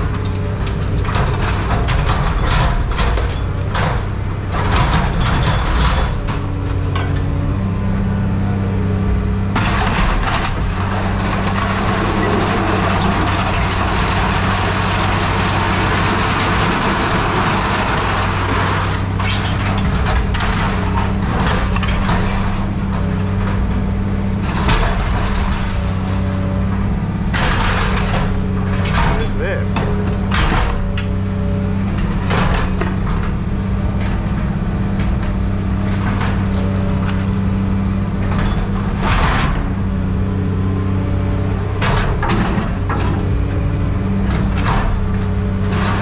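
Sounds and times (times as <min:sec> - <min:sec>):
metal knocks and cracks: 0:00.0 - 0:07.4, 0:09.4 - 0:40.0, 0:41.8 - 0:46.0
machine engine running: 0:00.0 - 0:40.2.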